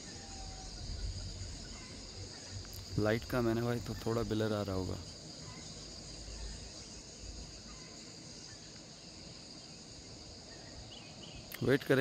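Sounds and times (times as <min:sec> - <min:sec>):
crickets chirping: 0:00.0 - 0:12.0
faint low hiss: 0:00.0 - 0:12.0.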